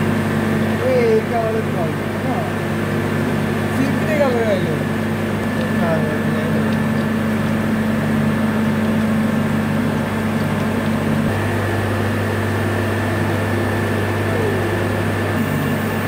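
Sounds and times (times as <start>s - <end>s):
industrial machinery low drone: 0.0s - 16.0s.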